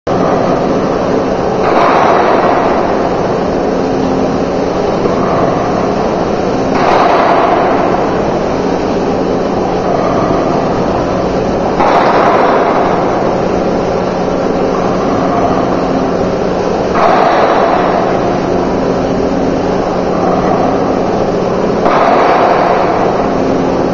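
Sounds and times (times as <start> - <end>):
constant low hum: 0.1 - 23.9
factory machinery din: 0.1 - 23.9.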